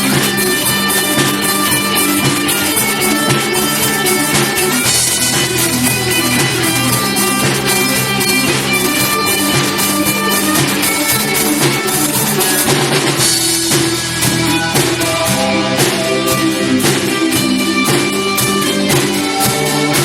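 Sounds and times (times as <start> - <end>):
drum kit beat: 0.0 - 20.0
live rock band playing: 0.0 - 20.0.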